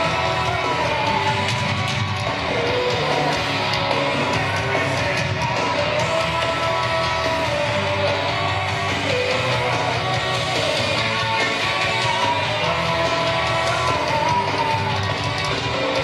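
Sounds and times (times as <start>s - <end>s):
rock music with singing and guitars: 0.0s - 16.0s.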